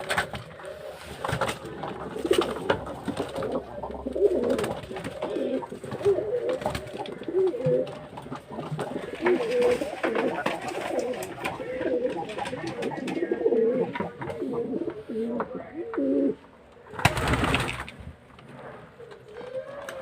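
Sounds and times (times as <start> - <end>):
pigeons cooing: 0.0 - 17.4.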